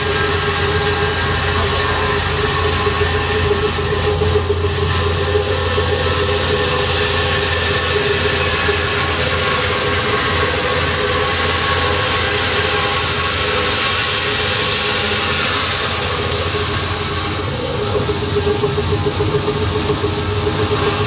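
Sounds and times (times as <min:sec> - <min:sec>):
band saw cutting wood: 0:00.0 - 0:21.0.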